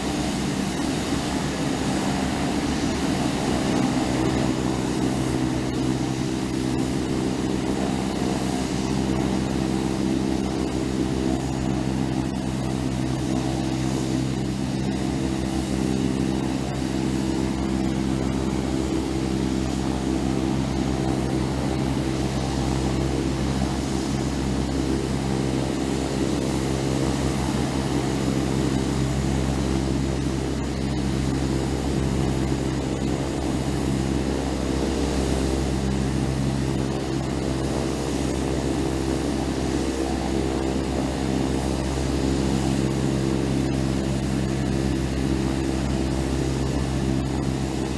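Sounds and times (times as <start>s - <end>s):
propeller airplane engine humming: 0.0s - 47.9s.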